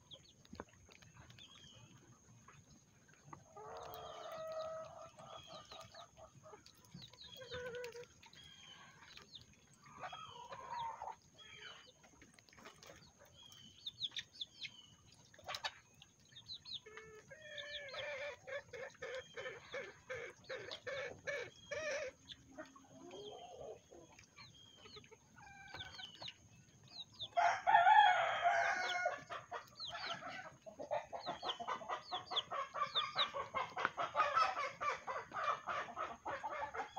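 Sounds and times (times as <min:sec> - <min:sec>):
chickens clucking and cackling: 0:00.0 - 0:36.9.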